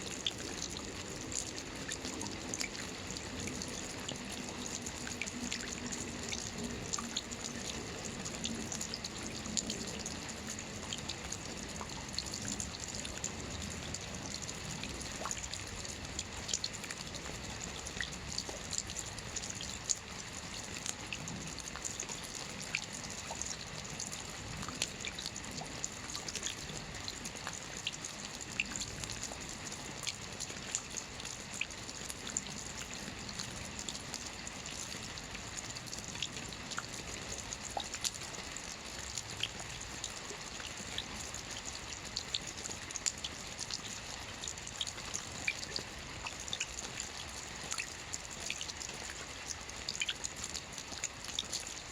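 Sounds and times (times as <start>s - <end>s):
rain hiss: 0.0s - 51.9s
raindrops ticking on surface: 0.0s - 51.9s.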